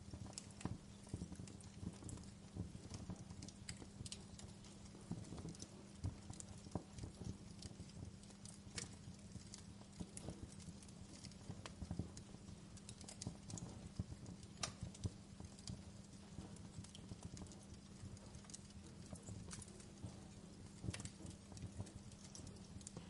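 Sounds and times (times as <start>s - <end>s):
burning logs popping and snapping: 0.0s - 23.0s
low fire rumble: 0.0s - 23.0s.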